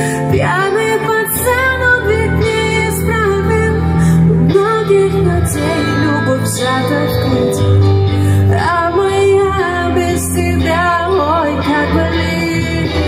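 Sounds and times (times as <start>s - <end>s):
bass and synth notes: 0.0s - 13.0s
woman singing: 0.0s - 13.0s.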